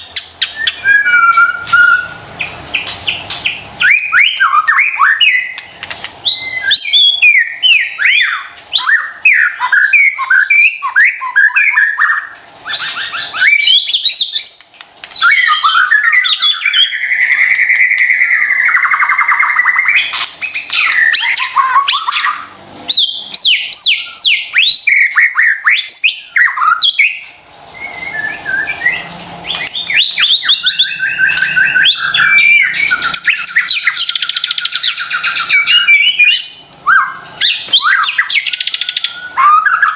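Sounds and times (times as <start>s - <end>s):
songbird whistled phrases and trills: 0.4s - 2.2s, 3.8s - 5.6s, 6.3s - 22.4s, 23.0s - 39.9s.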